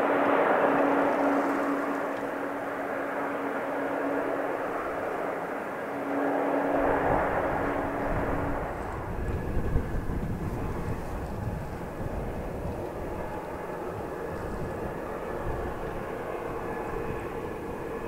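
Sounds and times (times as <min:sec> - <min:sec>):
jet engine hum: 0:00.0 - 0:18.0.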